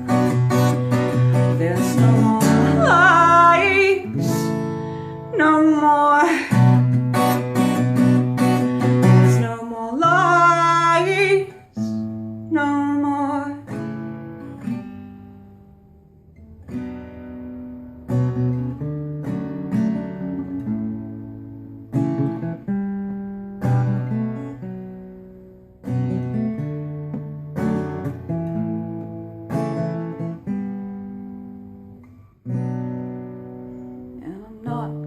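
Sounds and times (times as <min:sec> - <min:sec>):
acoustic guitar strumming chords: 0:00.0 - 0:35.0.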